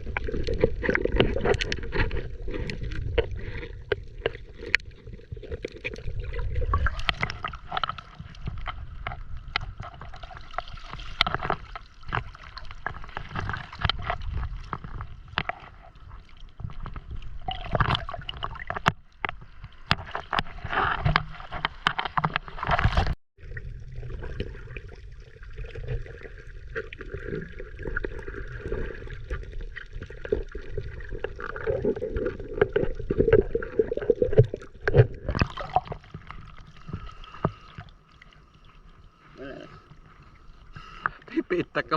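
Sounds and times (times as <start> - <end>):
water splashing and sloshing: 0.0 - 41.9.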